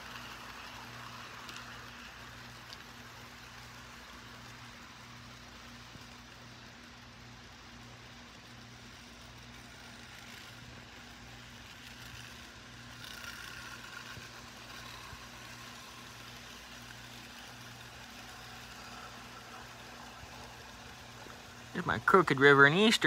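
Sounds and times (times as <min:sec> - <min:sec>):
model train electric hum: 0:00.0 - 0:23.0
model train rolling rattle: 0:00.0 - 0:23.0.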